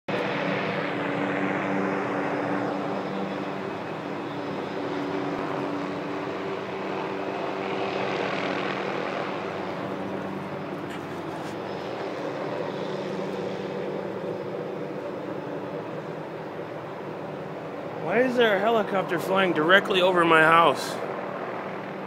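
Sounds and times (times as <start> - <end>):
helicopter hovering overhead: 0.1 - 22.0.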